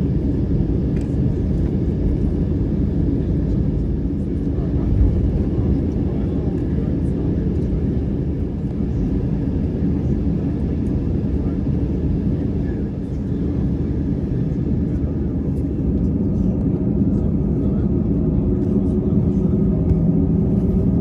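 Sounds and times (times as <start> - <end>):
aircraft cabin low rumble: 0.0 - 21.0.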